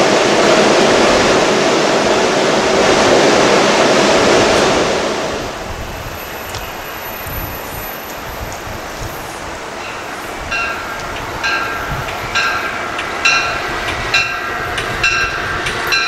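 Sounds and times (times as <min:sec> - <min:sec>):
distant train approaching: 0:00.0 - 0:16.0
train equipment rushing hum: 0:00.0 - 0:16.0.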